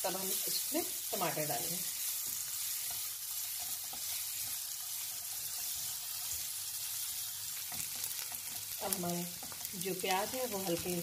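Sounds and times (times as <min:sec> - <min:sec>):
onions sizzling in hot oil: 0:00.0 - 0:11.0
spatula stirring in a pan: 0:00.0 - 0:11.0.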